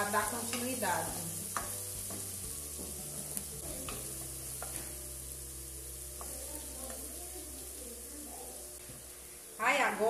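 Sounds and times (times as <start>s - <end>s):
onion and garlic sizzling in pan: 0.0s - 10.0s.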